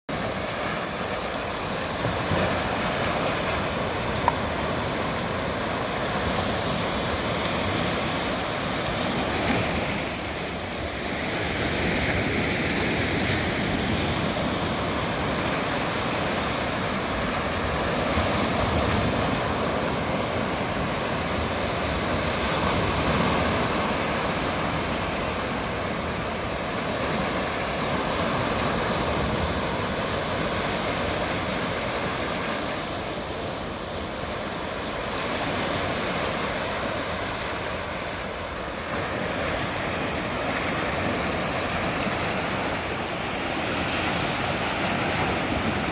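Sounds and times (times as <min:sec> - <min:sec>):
sea waves breaking over rocks: 0:00.1 - 0:45.9.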